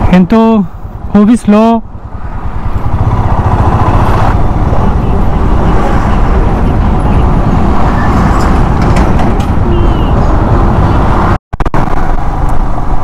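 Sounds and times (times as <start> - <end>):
road noise: 0.0 - 13.0
wind buffeting: 1.8 - 13.0.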